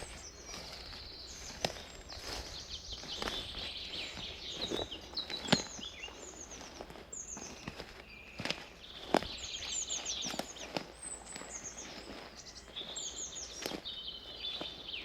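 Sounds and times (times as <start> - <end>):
footsteps on forest path: 0.0 - 15.0
songbirds chirping and trilling: 0.0 - 15.0.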